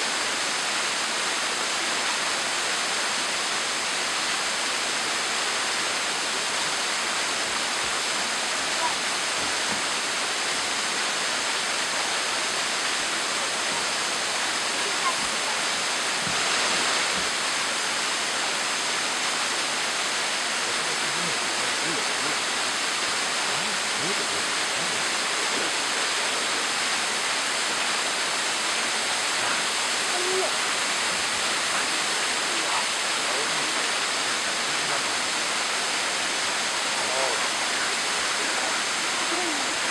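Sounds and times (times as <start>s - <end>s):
waterfall splashing onto boulders: 0.0s - 39.9s.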